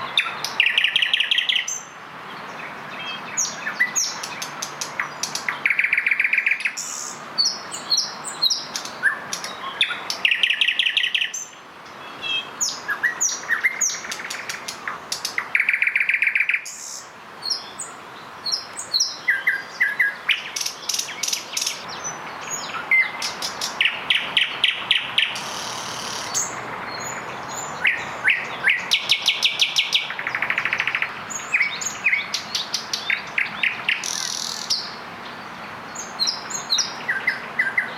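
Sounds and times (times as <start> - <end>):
nightingales singing: 0.0 - 37.9.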